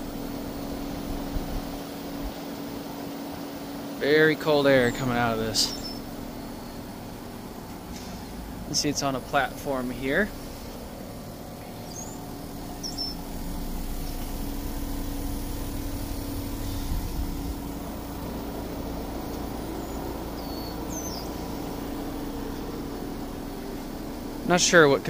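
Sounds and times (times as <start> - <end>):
heat pump humming: 0.0 - 25.0
birds chirping faintly: 2.0 - 25.0.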